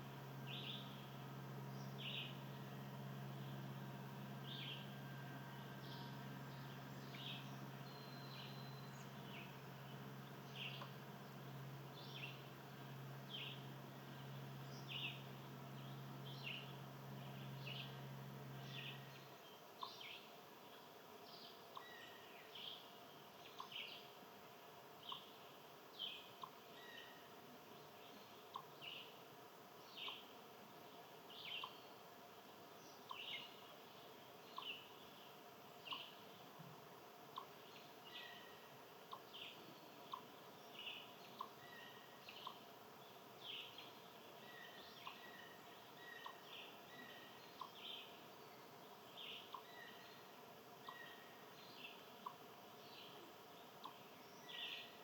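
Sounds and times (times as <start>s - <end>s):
bird chirping: 0.0s - 24.1s, 25.0s - 29.2s, 29.8s - 30.3s, 31.0s - 32.0s, 32.8s - 36.5s, 37.3s - 55.0s
steady low hum: 0.0s - 55.0s.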